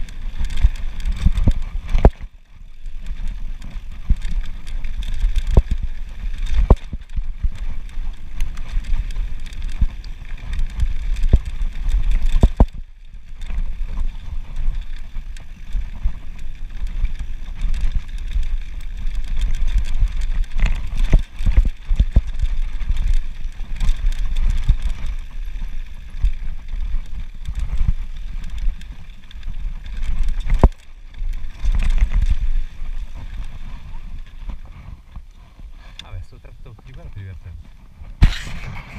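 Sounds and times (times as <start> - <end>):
bike knocking and rattling: 0.0 - 38.9
tyres crunching over gravel: 0.0 - 38.9
wind rumble on microphone: 0.0 - 38.9.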